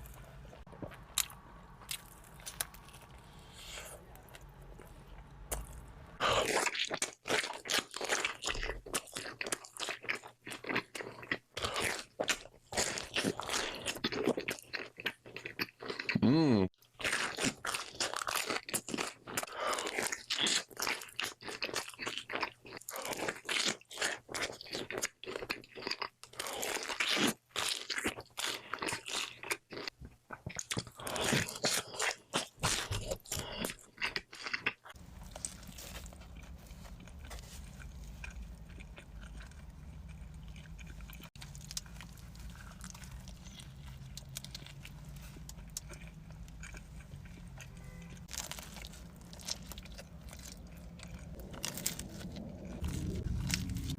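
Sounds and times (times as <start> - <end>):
crunching bites and chewing: 0.0 - 16.2, 16.8 - 53.9.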